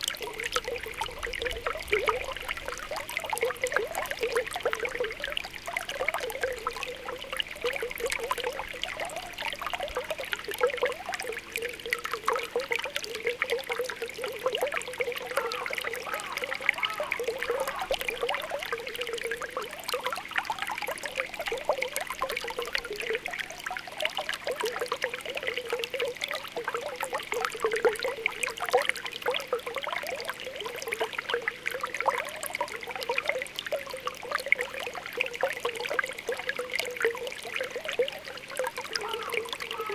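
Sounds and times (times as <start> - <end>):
spring water bubbling: 0.0 - 39.9.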